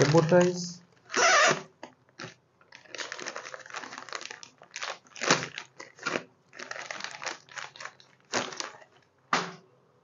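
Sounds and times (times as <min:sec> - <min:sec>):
cable tie rasps: 0:00.0 - 0:08.9
plastic cable ties crinkling: 0:00.0 - 0:09.1.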